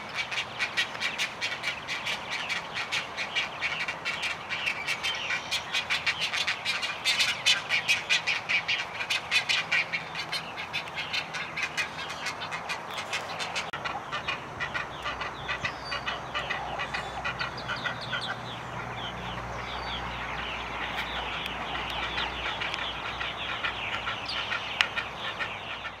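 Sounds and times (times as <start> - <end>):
egrets calling: 0.0 - 26.0.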